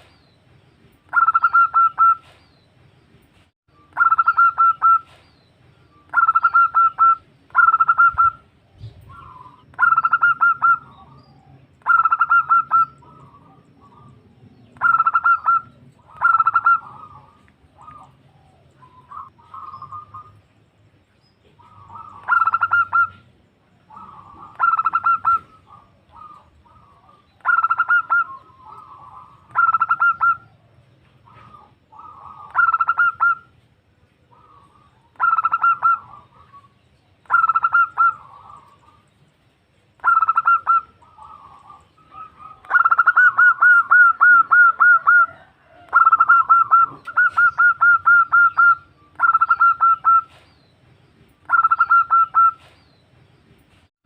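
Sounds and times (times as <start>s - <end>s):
dove cooing: 1.1s - 2.4s, 4.0s - 5.2s, 6.1s - 20.4s, 21.4s - 33.5s, 34.2s - 39.1s, 40.0s - 50.5s, 51.4s - 52.8s.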